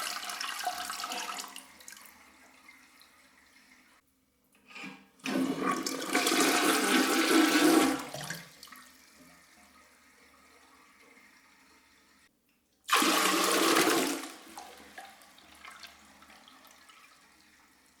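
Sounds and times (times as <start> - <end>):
toilet flushing: 0.0 - 4.0, 4.7 - 12.3, 12.9 - 18.0.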